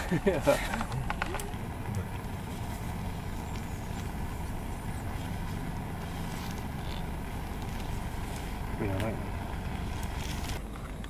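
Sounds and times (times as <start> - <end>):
camp stove burning roar: 0.0 - 11.0.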